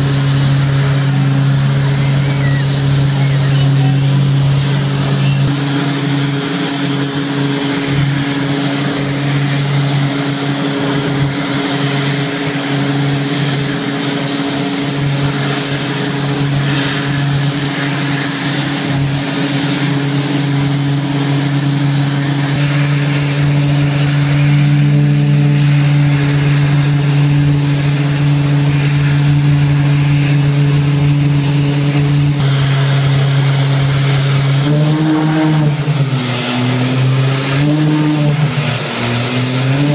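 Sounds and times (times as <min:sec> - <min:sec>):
loud engine drone: 0:00.0 - 0:39.9
running machinery: 0:00.0 - 0:39.9
thin high whine: 0:00.0 - 0:39.9.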